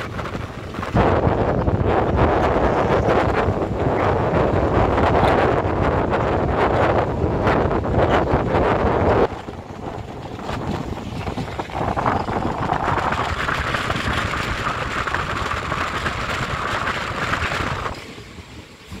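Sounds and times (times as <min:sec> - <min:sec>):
passenger train running: 0:00.0 - 0:19.0
wind rushing over microphone: 0:00.0 - 0:19.0.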